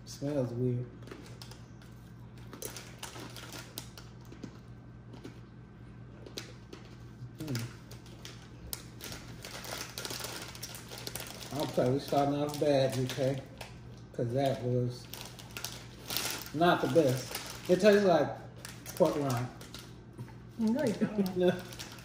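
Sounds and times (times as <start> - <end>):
crunchy chewing of crisps: 0.9 - 22.0
crisp packet crinkling: 1.0 - 4.6, 6.2 - 20.0, 20.6 - 22.0.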